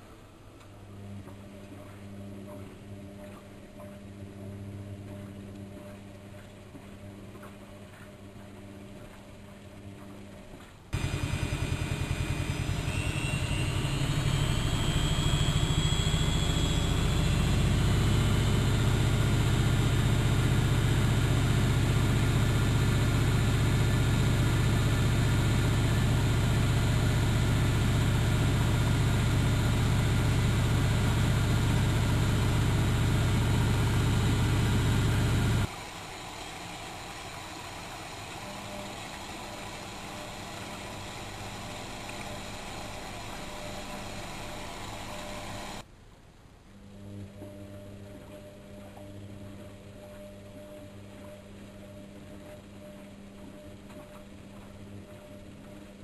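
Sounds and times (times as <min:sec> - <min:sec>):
washing machine spinning: 0:00.8 - 0:45.9, 0:47.0 - 0:56.0.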